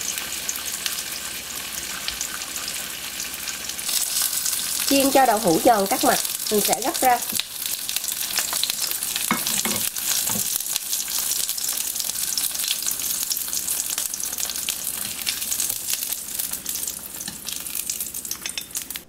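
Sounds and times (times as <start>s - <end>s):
tofu sizzling in a frying pan: 0.0s - 19.0s.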